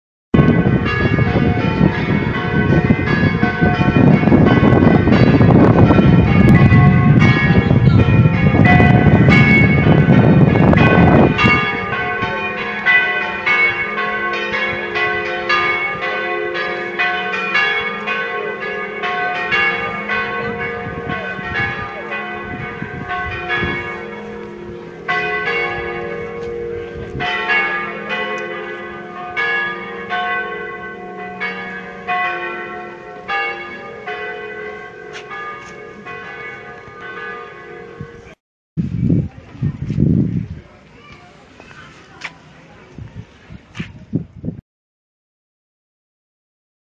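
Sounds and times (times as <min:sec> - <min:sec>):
church bells pealing: 0:00.4 - 0:38.4.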